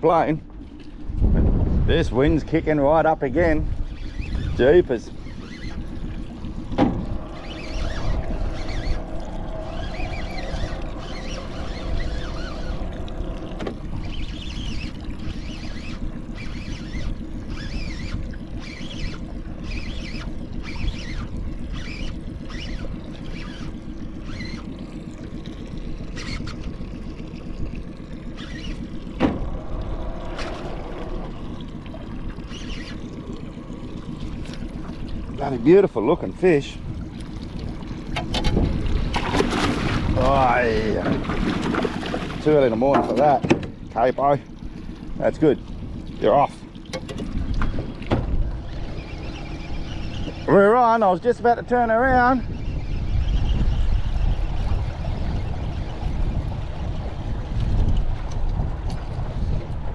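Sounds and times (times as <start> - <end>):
boat motor humming: 0.0 - 59.9
water splashing against hull: 0.0 - 59.9
wind buffeting microphone: 0.1 - 59.9.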